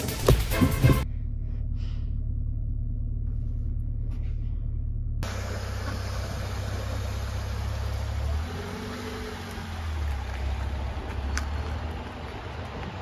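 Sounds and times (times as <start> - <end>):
car engine idling: 0.0 - 13.0
car pulling away: 0.0 - 13.0.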